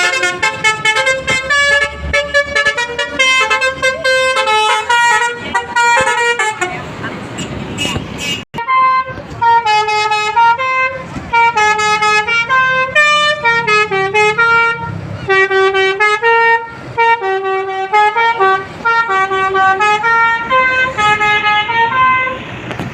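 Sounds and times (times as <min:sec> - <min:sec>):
multi-tone bus air horn tune: 0:00.0 - 0:22.5.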